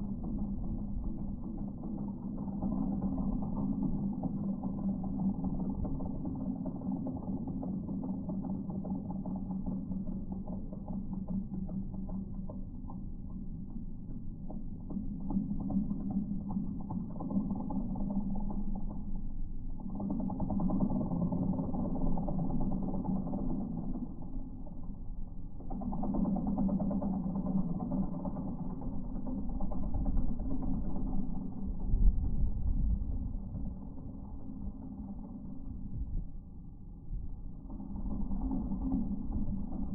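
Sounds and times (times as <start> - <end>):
deep machine engine rumble: 0.0 - 39.9
slowed stump grinder pulsing: 0.0 - 39.9.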